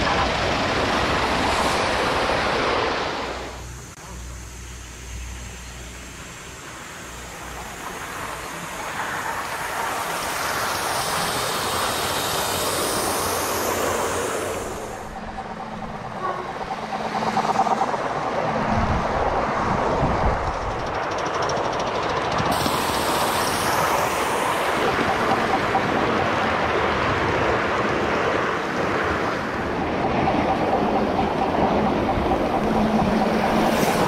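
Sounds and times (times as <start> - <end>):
model train wheels on rails: 3.3 - 34.0.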